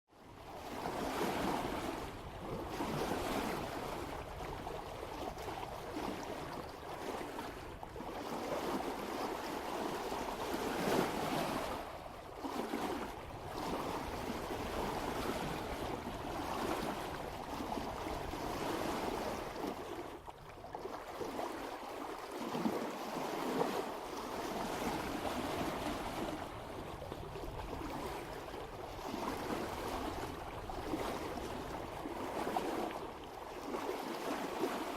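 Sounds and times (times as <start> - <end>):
water splashing along hull: 0.1 - 34.9
wind rumble on microphone: 0.2 - 34.9.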